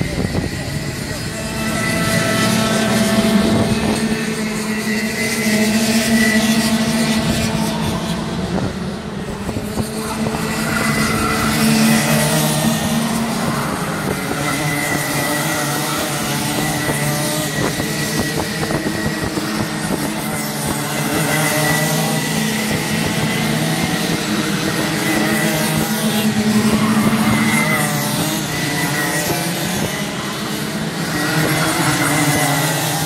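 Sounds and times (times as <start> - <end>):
racing kart engines: 0.0 - 33.0.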